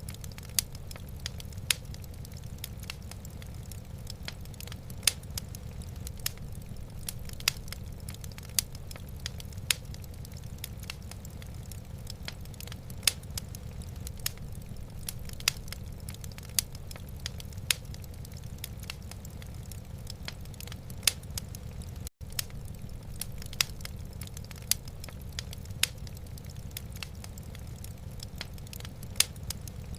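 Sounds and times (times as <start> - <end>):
logs crackling and popping: 0.0 - 29.9
low fire rumble: 0.0 - 29.9.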